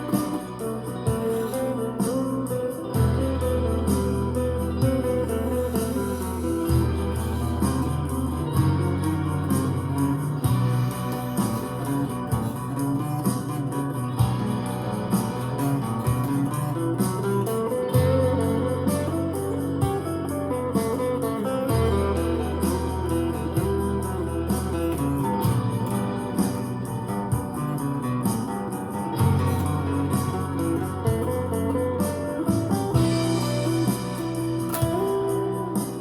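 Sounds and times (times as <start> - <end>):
blues guitar playing: 0.0 - 36.0.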